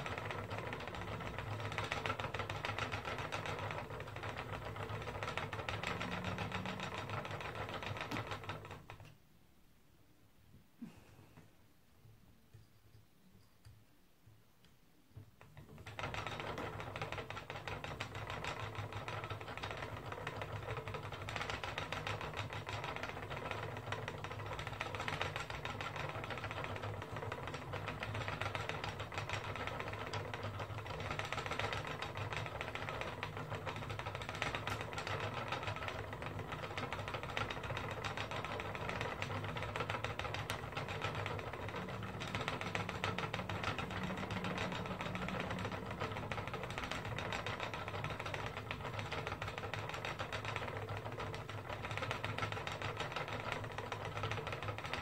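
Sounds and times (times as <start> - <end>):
spinning wheel humming and clicking: 0.0 - 9.2, 15.4 - 55.0.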